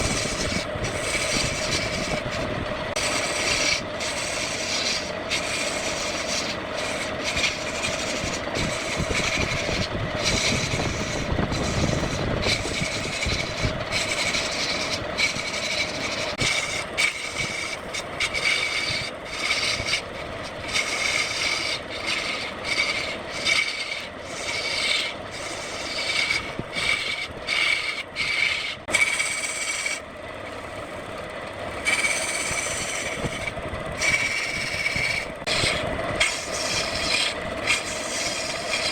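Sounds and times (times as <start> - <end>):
tool scraping spinning wood: 0.0 - 38.9
wood lathe running: 0.0 - 38.9.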